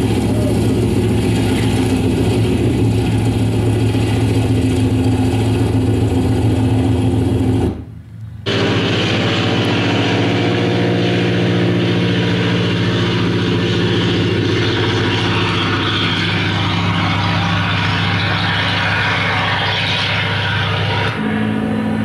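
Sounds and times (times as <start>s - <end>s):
piston aircraft engine running: 0.0s - 22.0s.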